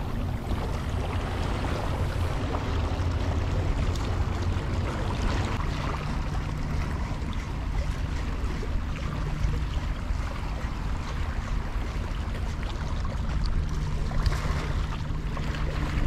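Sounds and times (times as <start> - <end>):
small waves lapping at rocks: 0.0 - 16.0
wind on microphone: 0.0 - 16.0.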